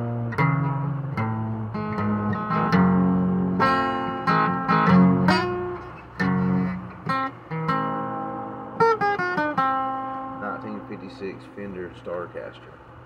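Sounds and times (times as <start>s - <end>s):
acoustic guitar playing: 0.0s - 12.3s.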